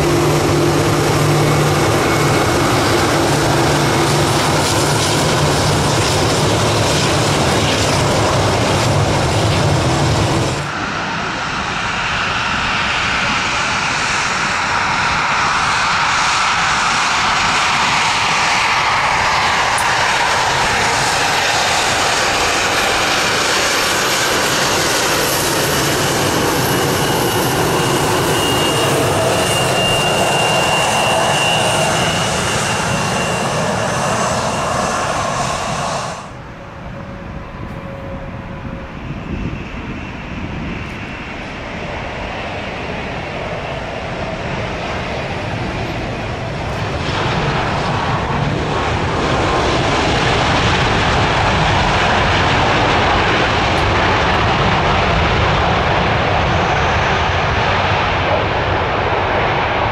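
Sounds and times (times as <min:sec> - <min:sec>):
jet engine whine: 0:00.0 - 0:59.9
jet engines rumbling: 0:00.0 - 0:59.9.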